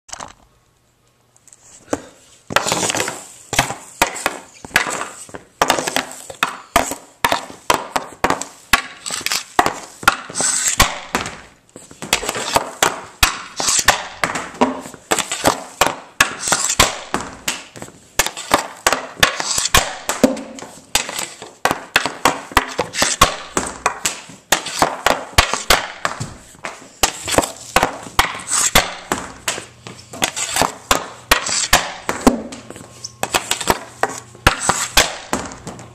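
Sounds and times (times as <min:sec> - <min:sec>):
pucks smacking concrete wall: 0:01.9 - 0:35.9
hockey stick slapping concrete: 0:02.0 - 0:35.9.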